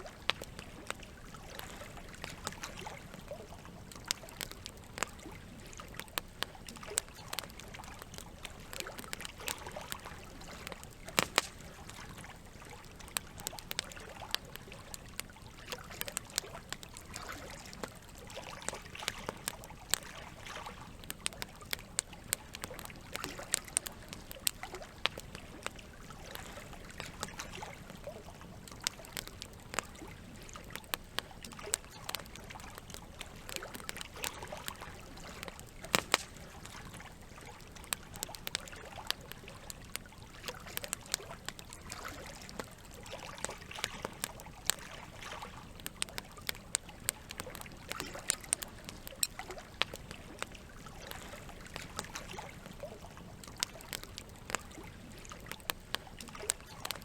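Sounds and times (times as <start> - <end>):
flowing water: 0.0 - 57.0
wood fire crackling: 0.0 - 57.0.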